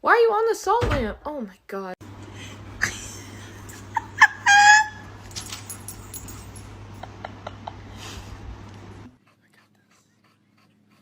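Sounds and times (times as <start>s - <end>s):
steady low hum: 2.0s - 11.0s.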